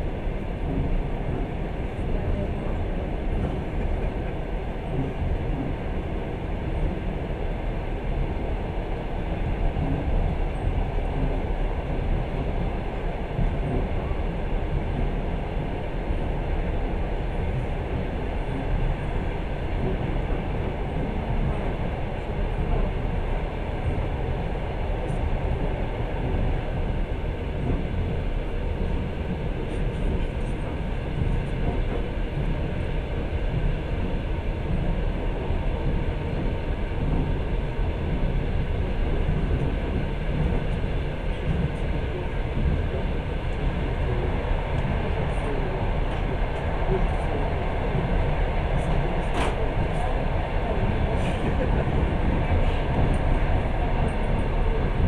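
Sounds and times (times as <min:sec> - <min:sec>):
passenger train running: 0:00.0 - 0:55.0.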